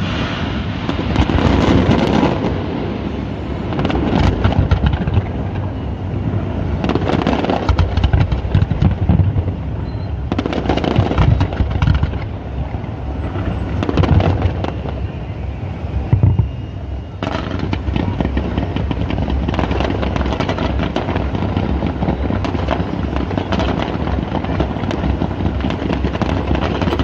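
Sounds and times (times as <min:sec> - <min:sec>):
rapid crackling firework bangs: 0:00.0 - 0:05.7, 0:06.7 - 0:12.6, 0:13.5 - 0:15.0, 0:16.0 - 0:16.6, 0:17.2 - 0:27.0
firework shell bursts rumbling: 0:00.0 - 0:05.8, 0:06.7 - 0:15.1, 0:16.0 - 0:27.0.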